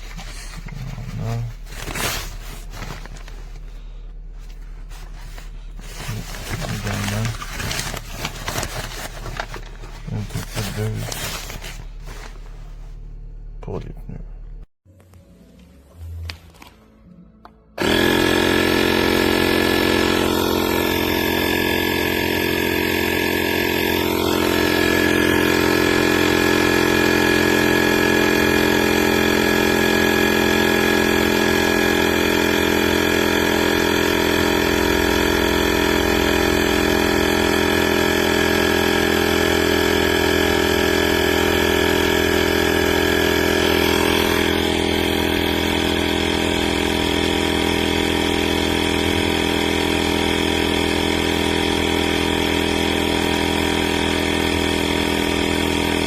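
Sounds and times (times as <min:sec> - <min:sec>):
tire inflator compressor buzzing: 0:00.0 - 0:13.5, 0:17.8 - 0:56.0.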